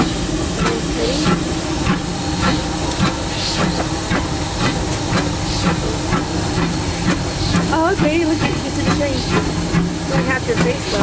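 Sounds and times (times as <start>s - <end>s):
steam locomotive hiss and beat: 0.0s - 11.0s.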